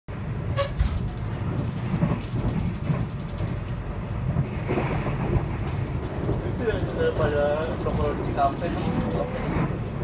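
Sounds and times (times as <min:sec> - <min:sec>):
train wheels rumbling on rails: 0:00.1 - 0:10.0.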